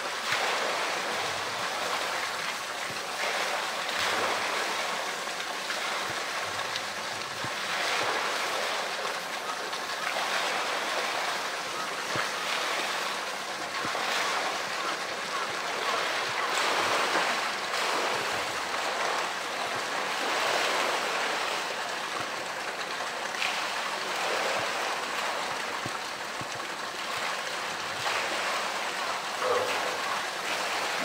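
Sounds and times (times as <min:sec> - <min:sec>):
pool water splashing and sloshing: 0:00.0 - 0:31.0.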